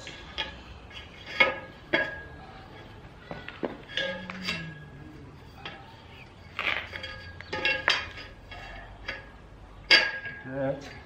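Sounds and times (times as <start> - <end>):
metal bar clanking: 0.0 - 11.0.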